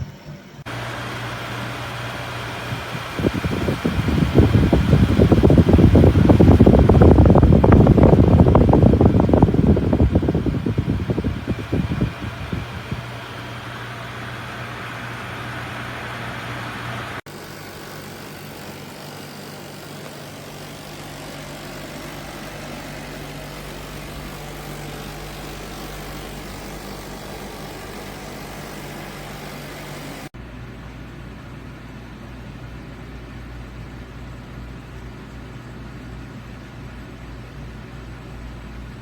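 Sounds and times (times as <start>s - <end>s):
air conditioner running: 0.0s - 39.0s.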